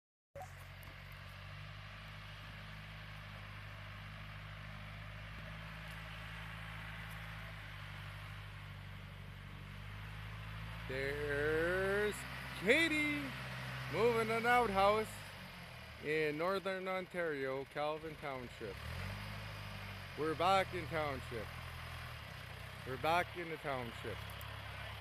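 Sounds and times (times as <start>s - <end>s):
backhoe engine running: 0.4s - 25.0s.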